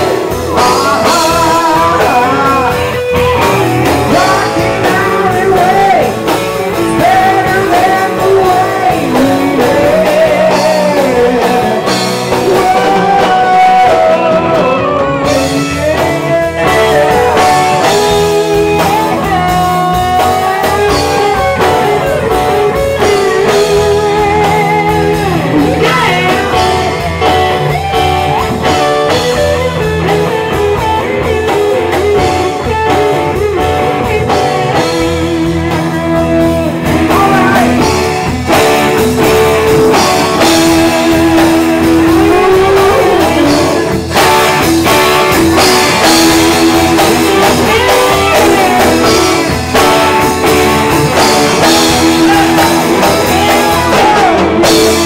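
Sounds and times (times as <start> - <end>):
bass and drums: 0.0 - 55.0
electric guitar lead: 0.0 - 55.0
person singing: 0.0 - 55.0.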